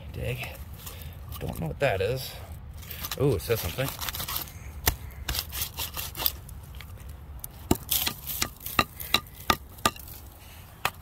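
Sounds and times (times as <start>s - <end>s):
digging in soil: 0.2s - 11.0s.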